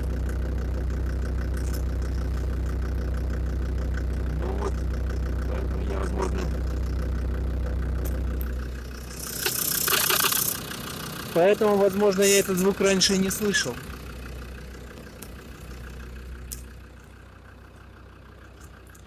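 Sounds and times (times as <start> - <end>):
diesel engine idling: 0.0 - 19.0
light regular engine knock: 0.0 - 19.0.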